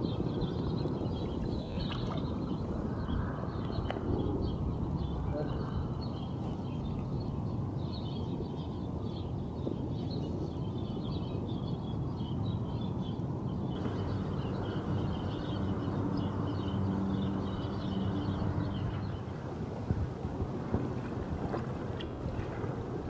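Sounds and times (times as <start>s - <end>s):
birds chirping: 0.0s - 19.6s
low steady hum: 0.0s - 23.0s.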